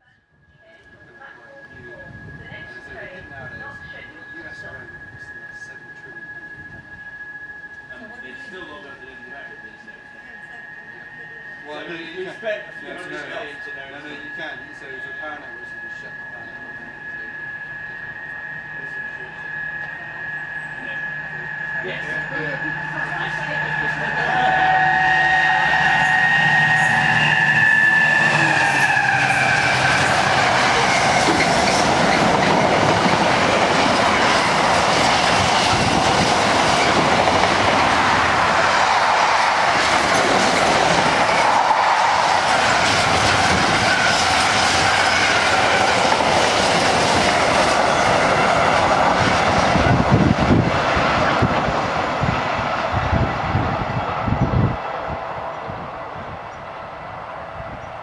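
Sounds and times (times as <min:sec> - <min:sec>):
diesel locomotive engine howling: 0:00.0 - 0:58.0
train wagons rumbling past: 0:01.6 - 0:58.0.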